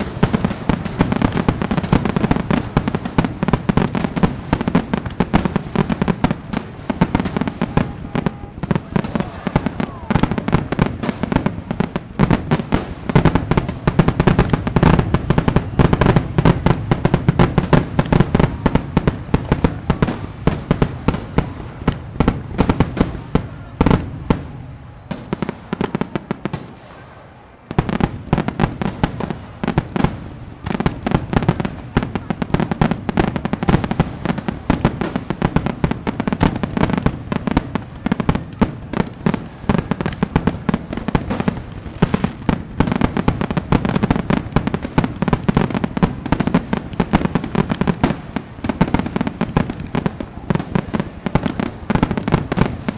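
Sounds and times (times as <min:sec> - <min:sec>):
fireworks cracking and banging: 0:00.0 - 0:52.9.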